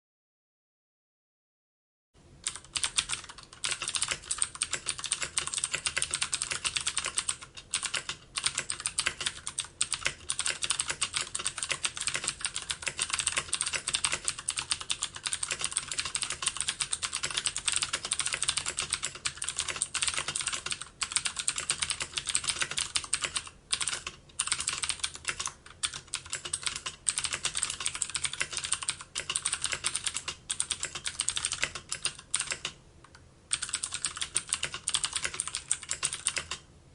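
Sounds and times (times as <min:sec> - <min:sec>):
fast typing on keyboard: 0:02.4 - 0:32.8, 0:33.5 - 0:36.6.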